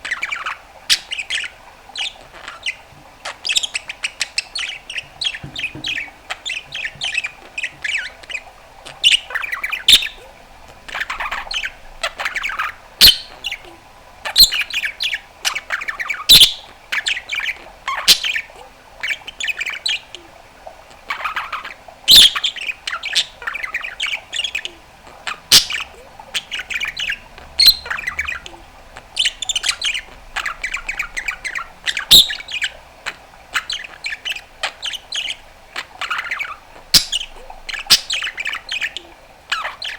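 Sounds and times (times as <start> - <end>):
budgerigar warbling: 0.0 - 20.2, 21.0 - 39.9.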